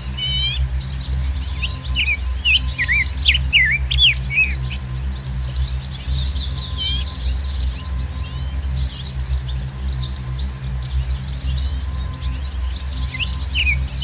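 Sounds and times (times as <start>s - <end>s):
bird trill: 0.0s - 14.0s
songbirds chirping and whistling: 0.0s - 14.0s.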